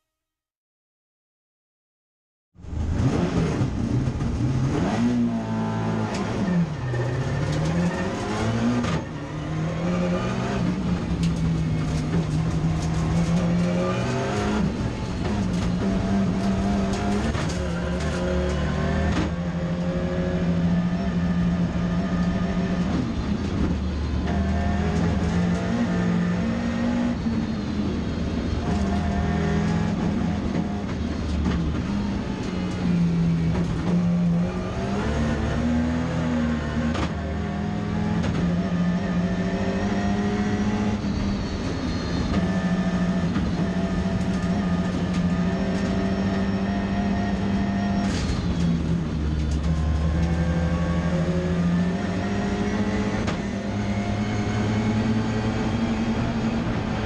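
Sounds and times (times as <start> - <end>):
car engine at full effort: 2.6 - 57.0.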